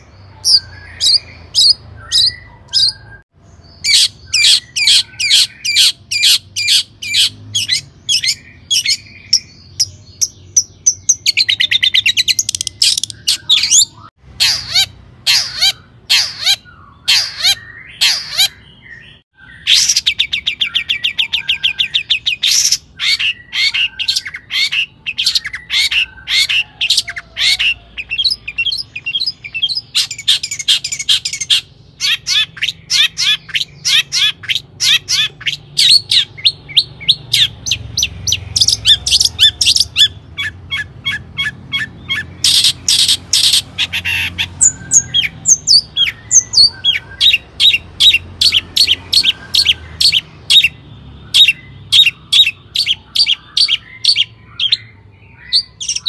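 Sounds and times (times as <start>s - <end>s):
shrike singing: 0.0s - 56.0s.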